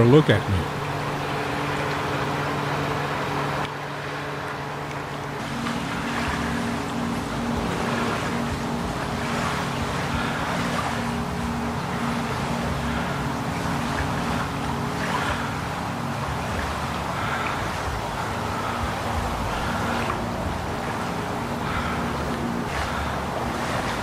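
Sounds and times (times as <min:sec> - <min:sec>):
engine drone: 0:00.0 - 0:24.0
rushing noise: 0:00.0 - 0:24.0.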